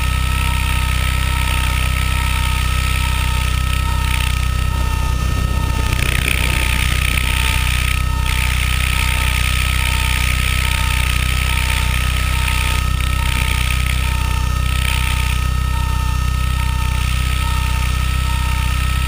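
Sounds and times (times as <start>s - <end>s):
mechanical motor drone: 0.0s - 19.0s
electronic beeps: 1.3s - 18.8s.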